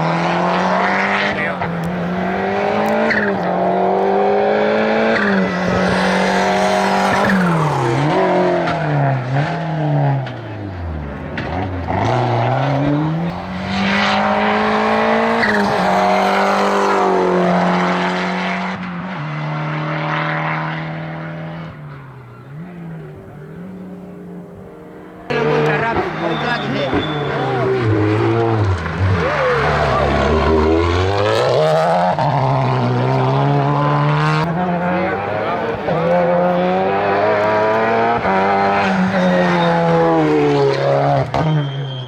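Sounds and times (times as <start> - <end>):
race car engine revving: 0.0 - 41.8.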